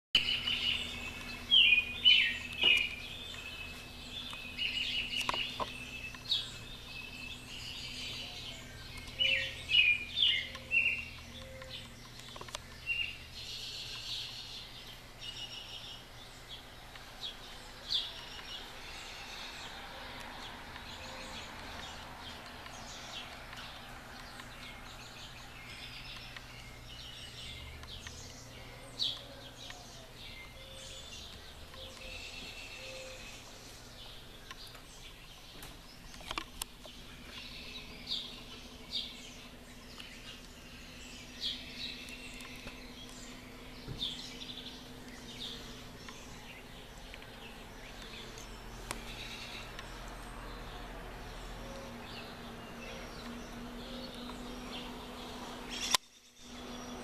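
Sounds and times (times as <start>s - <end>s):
songbirds singing and chirping: 0.1s - 57.0s.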